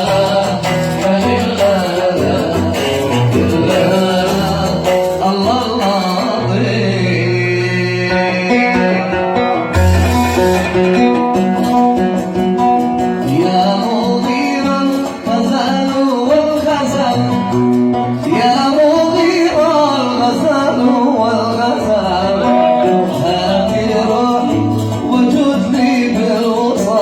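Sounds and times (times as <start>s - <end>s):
man singing melismatic line: 0.0s - 11.4s, 13.2s - 27.0s
oud plucked notes: 0.0s - 27.0s.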